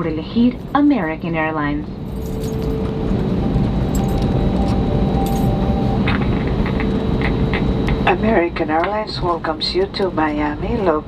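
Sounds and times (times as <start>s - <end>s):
aircraft engines humming: 0.0s - 11.0s.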